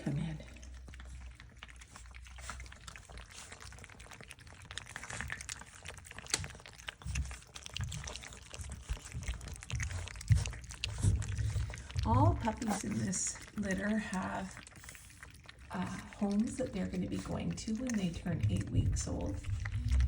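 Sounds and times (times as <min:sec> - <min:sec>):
puppies lapping wet food: 0:00.0 - 0:20.0.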